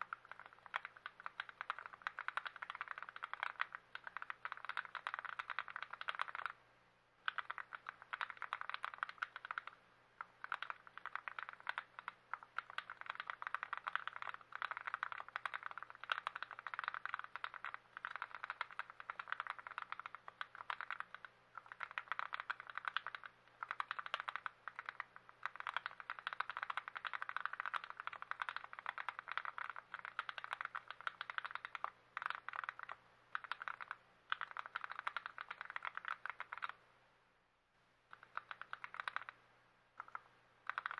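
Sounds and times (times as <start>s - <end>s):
mechanical keyboard typing: 0.0s - 6.6s, 7.2s - 36.8s, 38.1s - 39.4s, 40.0s - 40.9s.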